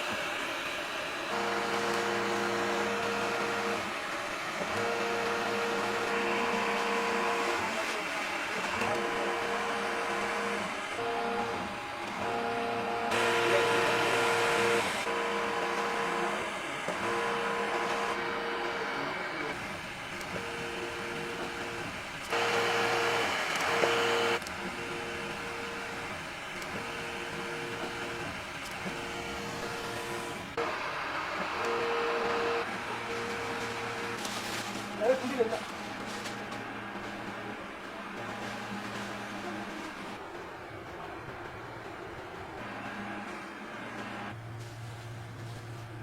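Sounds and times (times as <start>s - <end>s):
knitting machines whining: 0.0s - 46.0s.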